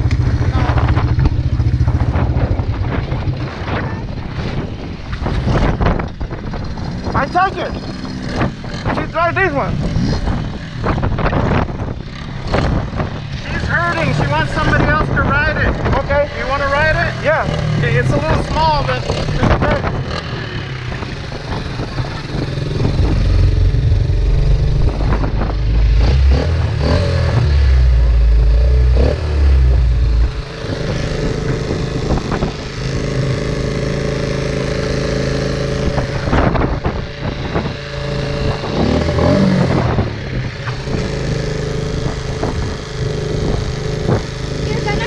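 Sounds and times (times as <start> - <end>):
off-road vehicle engine running: 0.0 - 45.0.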